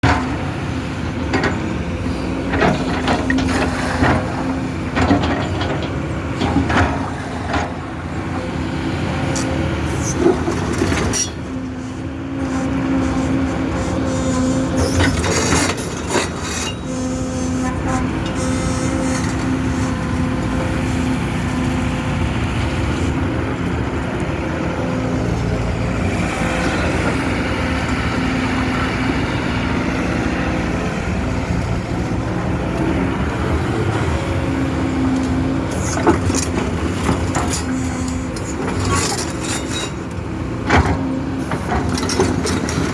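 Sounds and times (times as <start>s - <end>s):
excavator diesel engine running: 0.0s - 42.9s
excavator knocks and clanks: 0.0s - 42.9s.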